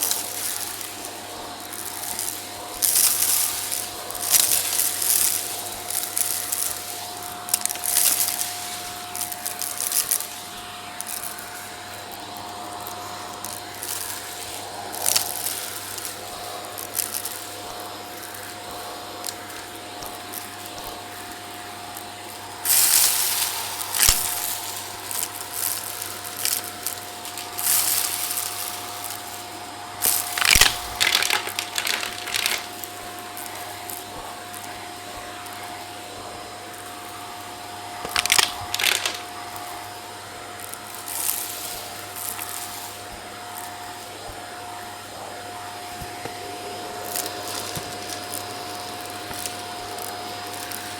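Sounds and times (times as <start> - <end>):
debris crackling in vacuum: 0.0 - 45.4, 46.0 - 50.9
vacuum cleaner running: 0.0 - 50.9.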